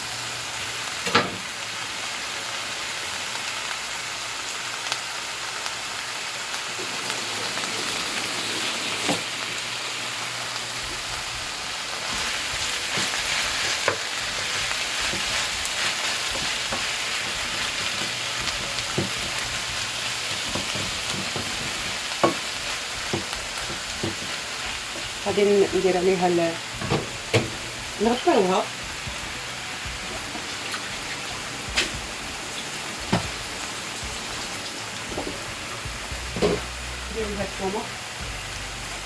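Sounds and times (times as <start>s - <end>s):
greens sizzling in hot oil: 0.0s - 39.0s.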